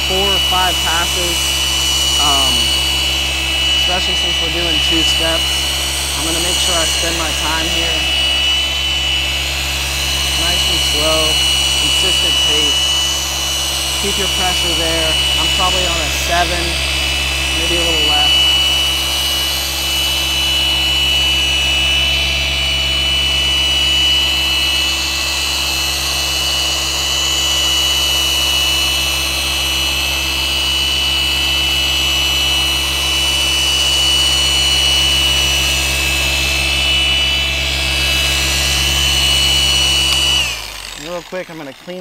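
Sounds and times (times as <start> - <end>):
orbital polisher whining: 0.0 - 42.0.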